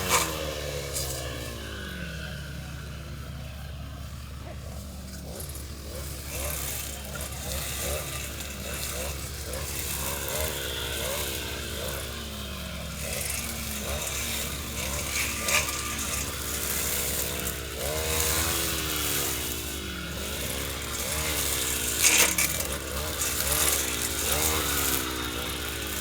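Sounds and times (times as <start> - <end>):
lawnmower engine running: 0.0 - 26.0.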